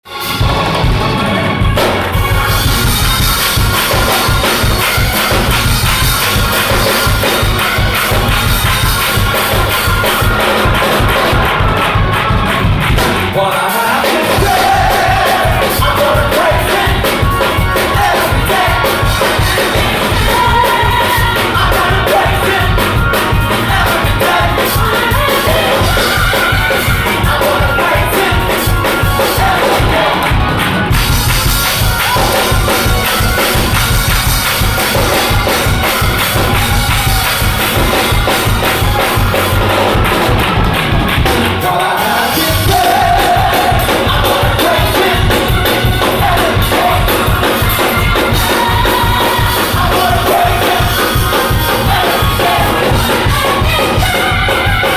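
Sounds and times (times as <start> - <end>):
drum kit and bass beat: 0.0 - 54.9
gospel band and choir: 0.1 - 54.9.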